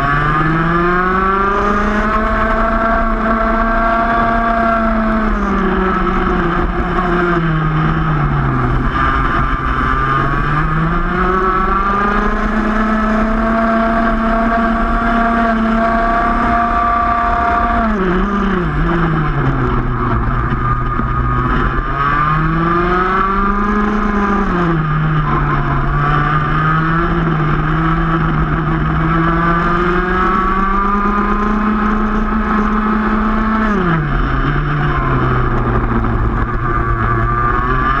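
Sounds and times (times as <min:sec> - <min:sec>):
kart engine revving: 0:00.0 - 0:38.0.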